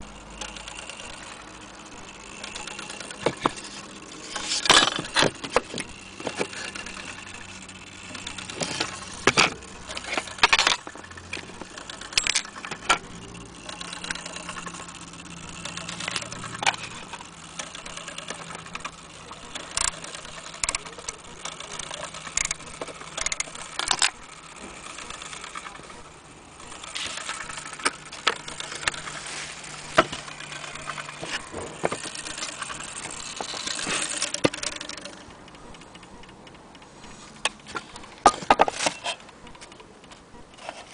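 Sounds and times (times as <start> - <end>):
clock clicking and rattling: 0.0 - 40.9
steady low hum: 0.0 - 40.9.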